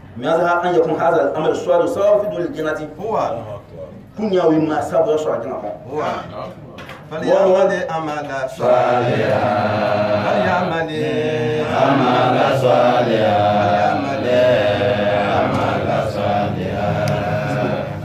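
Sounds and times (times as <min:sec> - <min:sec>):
men chanting a melodic recitation: 0:00.2 - 0:18.0.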